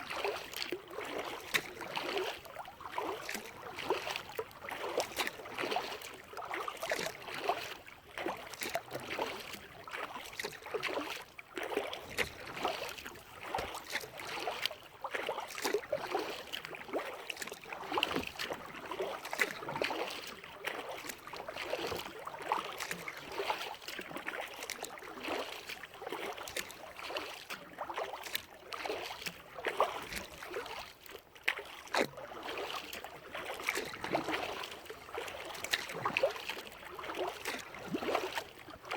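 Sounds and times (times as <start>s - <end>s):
paddle splashes and drips: 0.0s - 38.9s
water against kayak hull: 0.0s - 38.9s.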